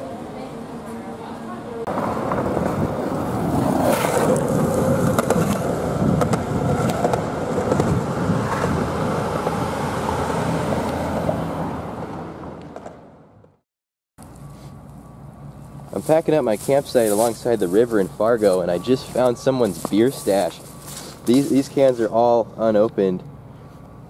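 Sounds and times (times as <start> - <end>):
traffic rumble of tyres and engines: 0.0 - 13.6, 14.2 - 24.0.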